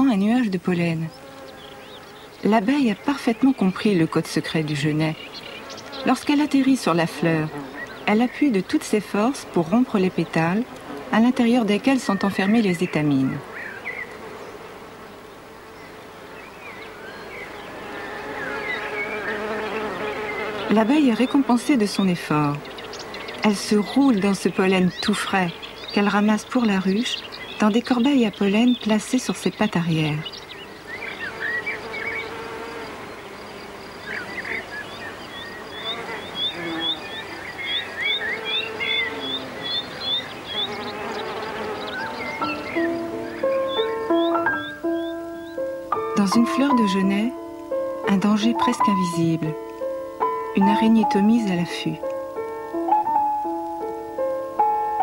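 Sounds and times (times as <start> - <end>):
honeybee buzzing: 0.0 - 55.0.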